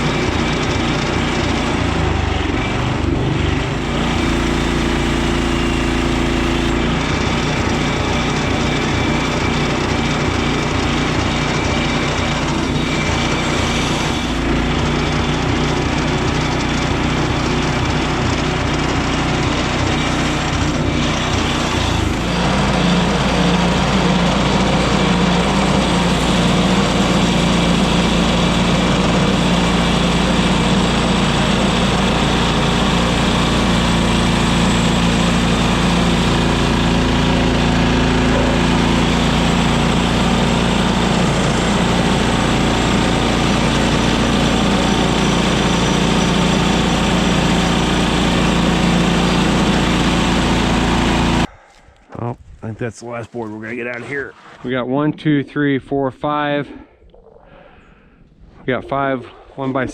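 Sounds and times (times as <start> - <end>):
bandsaw sawmill cutting log: 0.0 - 51.5.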